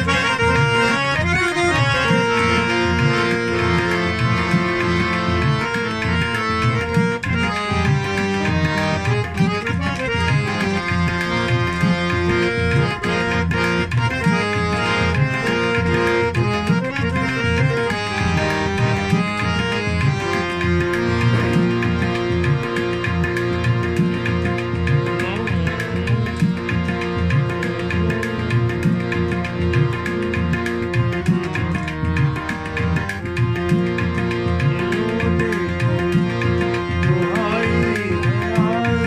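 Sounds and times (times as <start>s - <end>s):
hand drum beat: 0.0s - 39.0s
held melody: 0.0s - 39.0s.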